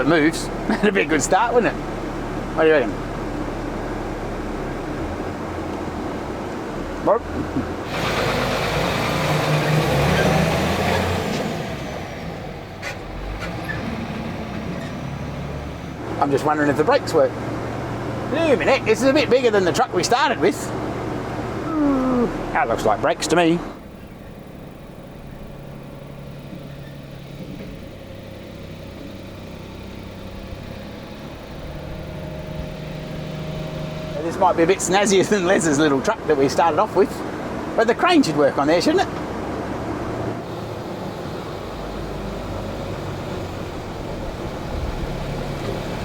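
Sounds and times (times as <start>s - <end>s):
truck engine revving: 0.0s - 46.0s.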